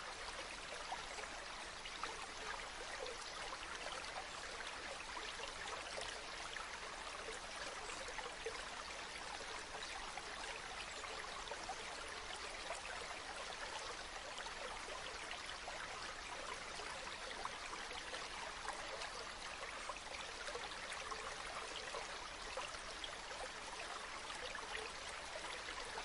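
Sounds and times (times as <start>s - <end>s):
shallow stream babbling: 0.0s - 26.0s.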